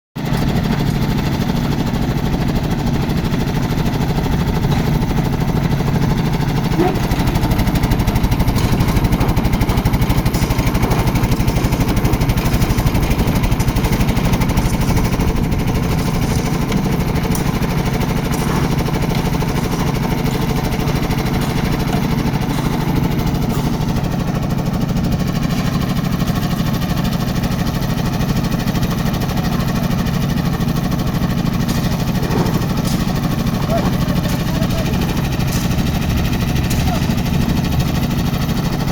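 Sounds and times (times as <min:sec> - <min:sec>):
concrete mixer engine chugging: 0:00.2 - 0:38.9.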